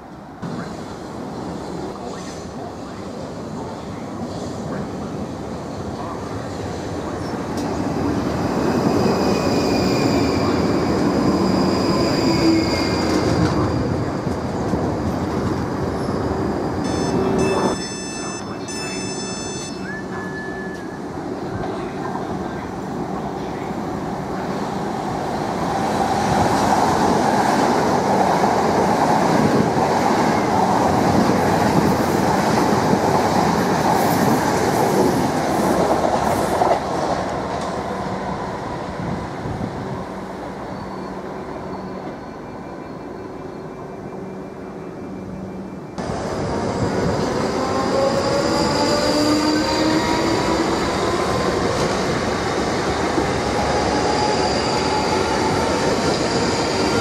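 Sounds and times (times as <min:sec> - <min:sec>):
electric trains passing: 0:00.0 - 0:57.0.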